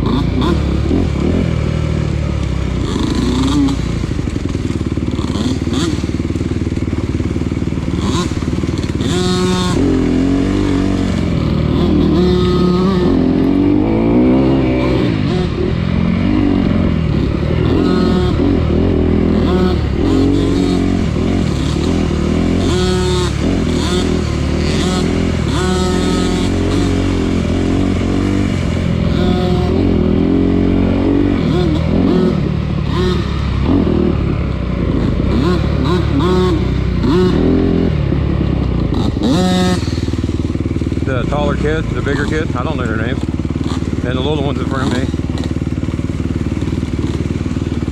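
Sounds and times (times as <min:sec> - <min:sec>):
off-road engine revving: 0:00.0 - 0:47.9.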